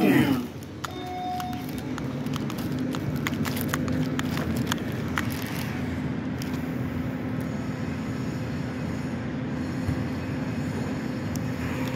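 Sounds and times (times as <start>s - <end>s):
low mechanical hum: 0.0s - 11.9s.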